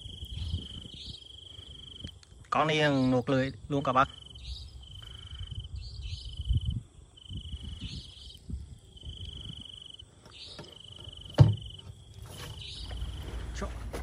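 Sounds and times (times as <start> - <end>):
insect trilling: 0.0 - 13.2.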